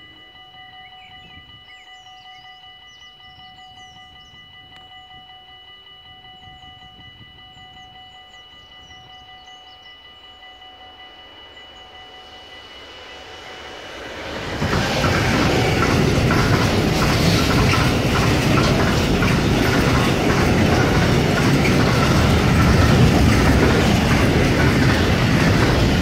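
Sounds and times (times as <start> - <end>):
freight train rumble: 0.0 - 26.0
steady high ringing tone: 0.0 - 26.0
birds chirping: 0.2 - 26.0.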